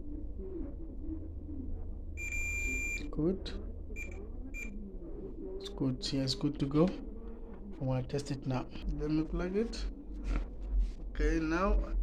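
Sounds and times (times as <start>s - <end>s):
pigeon cooing softly: 0.0s - 10.5s
steady low hum: 0.0s - 12.0s.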